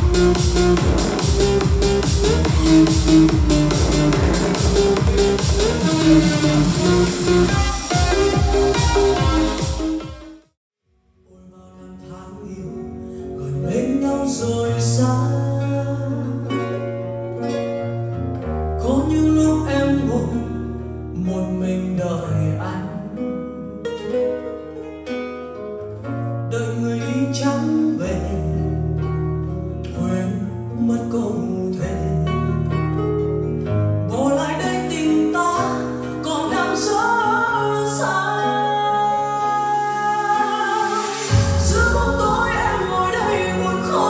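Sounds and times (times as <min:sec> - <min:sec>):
song with guitar and singing: 0:00.0 - 0:09.8, 0:11.4 - 0:18.2, 0:18.8 - 0:24.2, 0:26.4 - 0:44.0.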